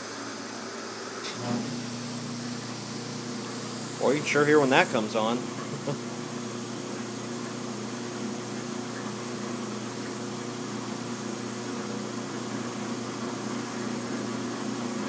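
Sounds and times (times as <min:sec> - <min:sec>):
dishwasher motor hum: 0:00.0 - 0:15.0
water rushing into tub: 0:01.3 - 0:15.0.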